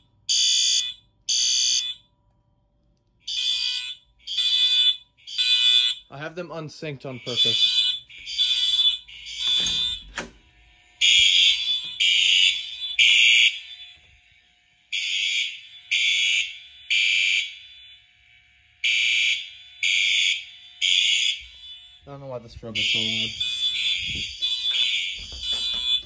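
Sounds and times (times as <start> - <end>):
shrill fire alarm horn blasts: 0.3 - 2.1, 3.2 - 6.1, 6.9 - 26.0.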